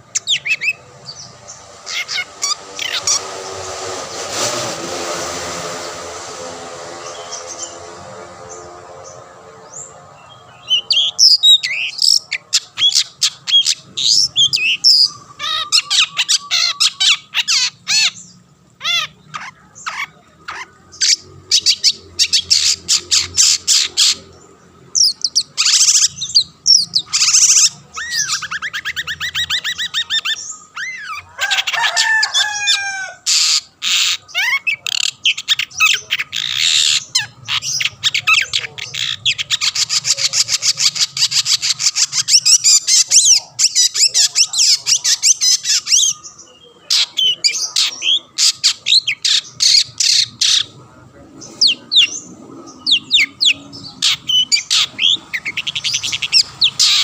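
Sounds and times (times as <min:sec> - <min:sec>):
shrike singing: 0:00.0 - 0:57.0.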